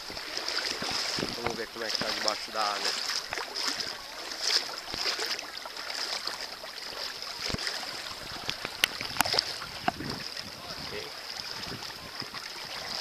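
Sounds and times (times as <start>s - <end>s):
sea water lapping and splashing: 0.0s - 13.0s.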